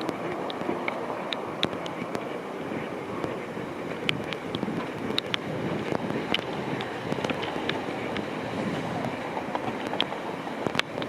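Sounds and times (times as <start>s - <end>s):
sharp ticks: 0.0s - 2.4s, 3.2s - 8.3s, 9.0s - 11.0s
traffic noise: 0.0s - 11.0s.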